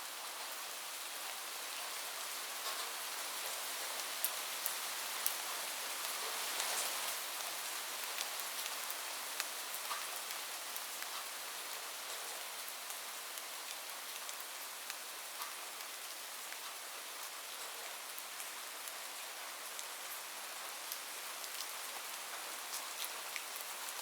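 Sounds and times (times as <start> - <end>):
rain on a roof: 0.0 - 24.0.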